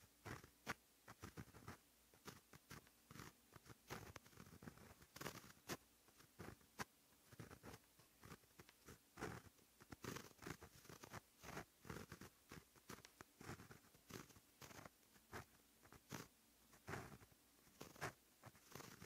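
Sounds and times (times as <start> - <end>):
pen scratching on paper: 0.0 - 19.0.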